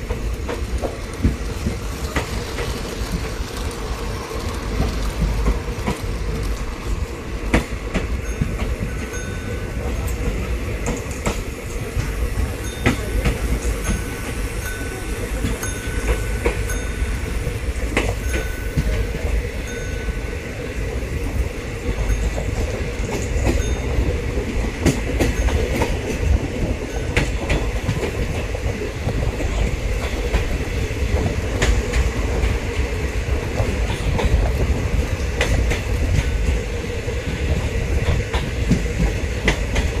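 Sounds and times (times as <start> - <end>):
model train rumble: 0.0 - 40.0
wheels clicking over rail joints: 0.0 - 40.0.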